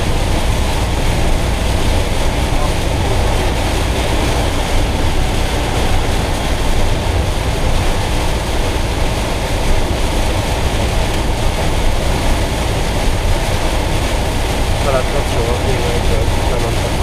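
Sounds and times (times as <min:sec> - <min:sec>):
heavy rain on vehicle roof: 0:00.0 - 0:17.0
tyres and engine rumble: 0:00.0 - 0:17.0.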